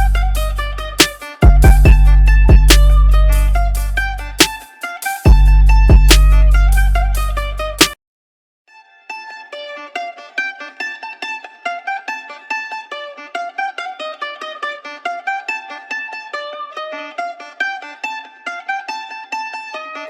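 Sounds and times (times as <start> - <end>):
plucked string melody: 0.0 - 8.0, 8.7 - 20.0.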